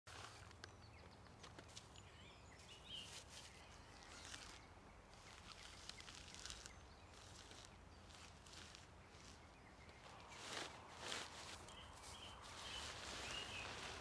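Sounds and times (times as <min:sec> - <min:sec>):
tent fabric rustling and crinkling: 0:02.6 - 0:14.0.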